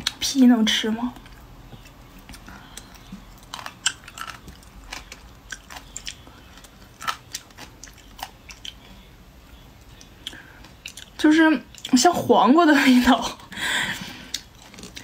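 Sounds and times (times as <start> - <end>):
crunching and chewing fruit: 0.0 - 12.2, 13.9 - 15.0.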